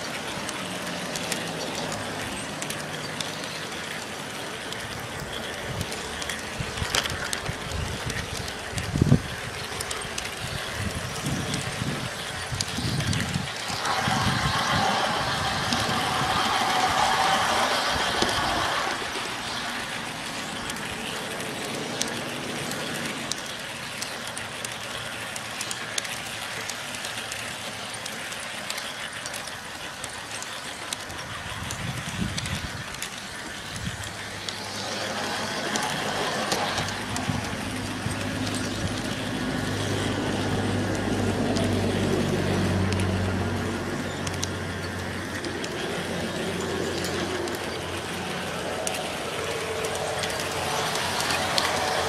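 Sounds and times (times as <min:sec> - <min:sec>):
model trains rolling on track: 0:00.0 - 0:52.0.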